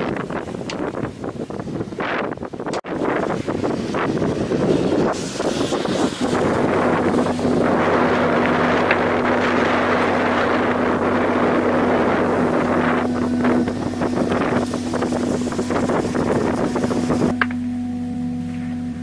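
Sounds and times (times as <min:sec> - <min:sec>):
wind buffeting microphone: 0:00.0 - 0:19.0
seawater rushing and splashing: 0:02.9 - 0:19.0.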